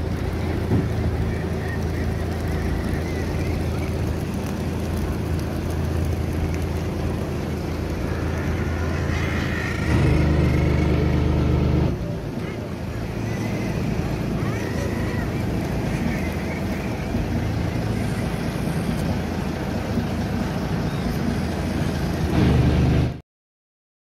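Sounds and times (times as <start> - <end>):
boat engine droning: 0.0 - 23.2.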